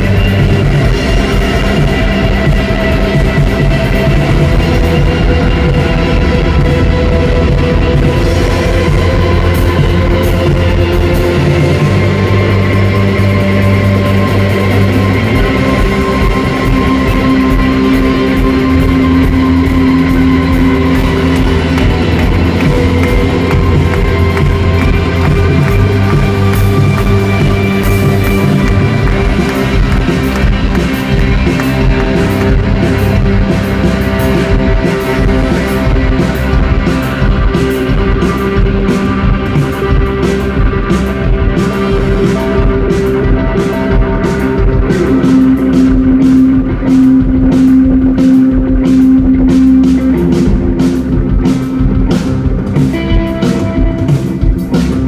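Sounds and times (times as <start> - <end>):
drum beat: 0.0 - 55.0
electric guitars and keyboards: 0.0 - 55.0.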